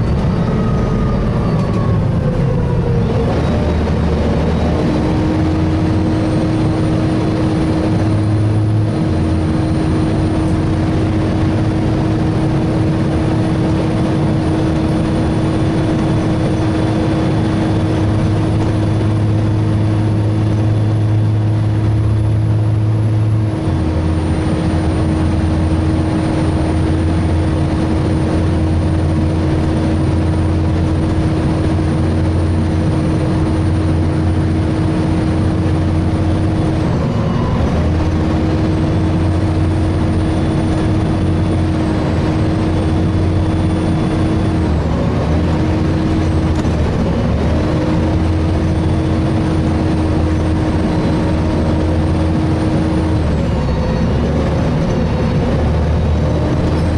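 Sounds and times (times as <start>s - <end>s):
bus diesel engine humming: 0.0s - 56.9s
engine cooling fan whine: 0.0s - 56.9s.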